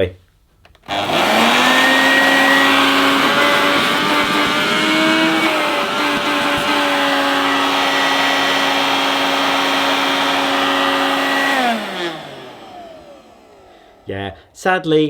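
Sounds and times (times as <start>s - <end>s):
vacuum cleaner motor whine: 0.8s - 14.2s
motor winding down: 0.9s - 14.1s.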